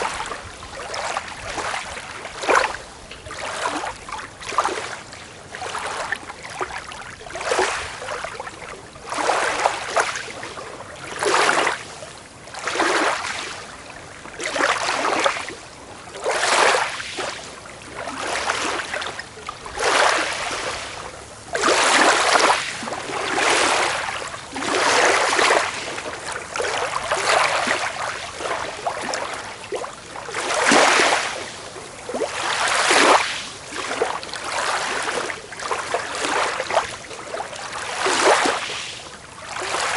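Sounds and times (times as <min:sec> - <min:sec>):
small waves washing onto beach: 0:00.0 - 0:39.9.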